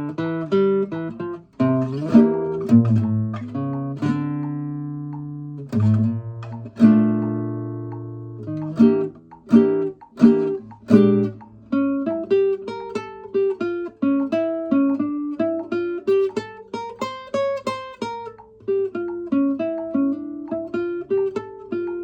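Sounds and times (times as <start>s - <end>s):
guitar strummed chords: 0.0s - 22.0s
picked guitar melody: 0.0s - 22.0s.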